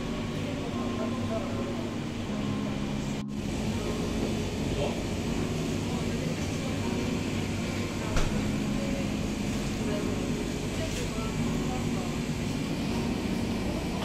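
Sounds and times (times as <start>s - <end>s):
faint indistinct voices: 0.0s - 14.0s
hum of refrigerated cases: 0.0s - 14.0s.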